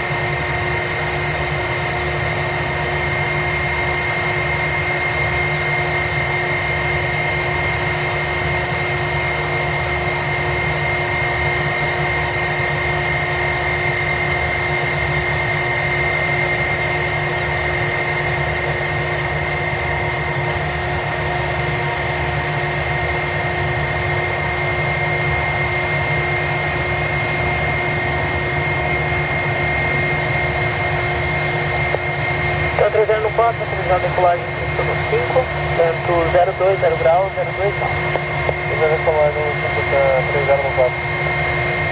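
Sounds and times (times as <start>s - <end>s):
jet engines idling: 0.0s - 41.9s.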